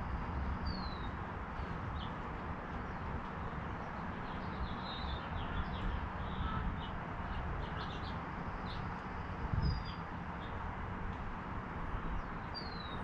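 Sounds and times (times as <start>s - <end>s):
small birds chirping: 0.6s - 10.6s, 12.0s - 13.0s.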